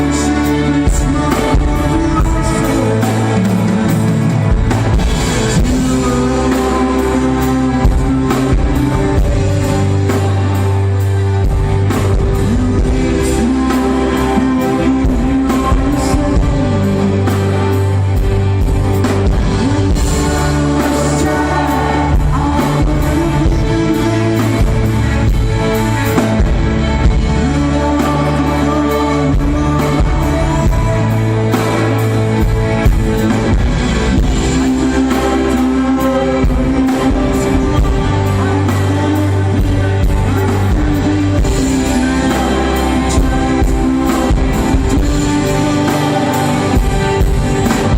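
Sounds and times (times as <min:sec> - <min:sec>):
bass guitar: 0:00.0 - 0:47.9
electric guitar: 0:00.0 - 0:47.9
person singing: 0:00.0 - 0:47.9
drum kit steady beat: 0:00.4 - 0:47.9.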